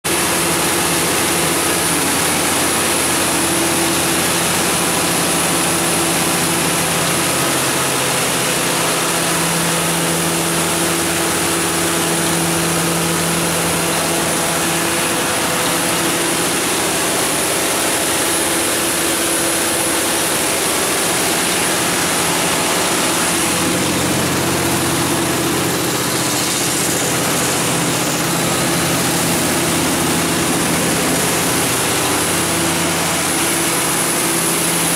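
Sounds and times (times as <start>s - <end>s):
generator engine humming: 0.1s - 34.9s.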